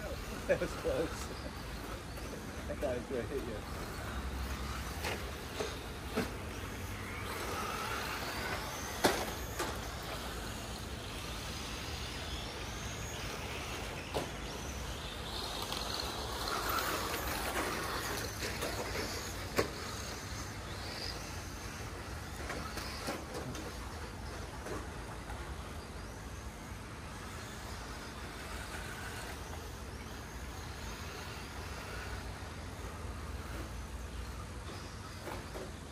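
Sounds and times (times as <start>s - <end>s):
electric motors whining: 0.0s - 35.9s.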